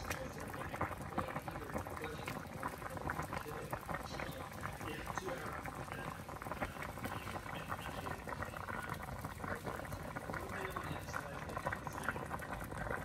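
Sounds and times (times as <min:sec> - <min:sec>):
soup boiling and bubbling: 0:00.0 - 0:13.0.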